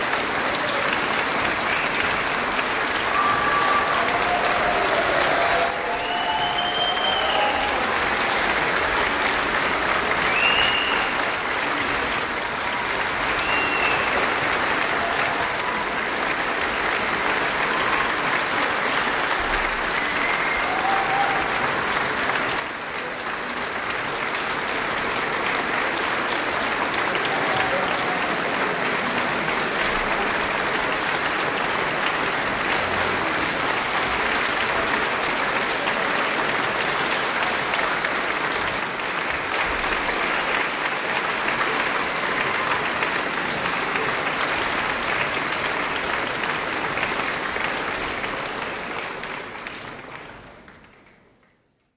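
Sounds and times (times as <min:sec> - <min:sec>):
audience applauding: 0:00.0 - 0:51.9.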